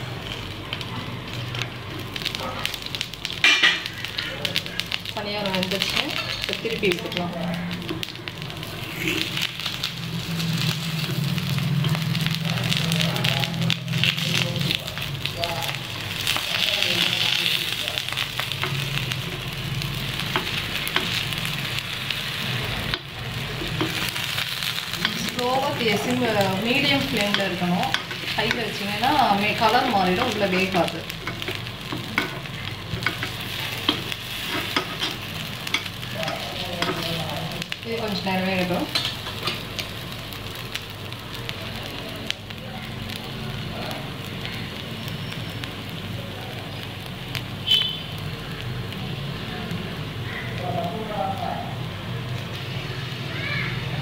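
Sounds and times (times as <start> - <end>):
oil sizzling in a pan: 0.0 - 54.0.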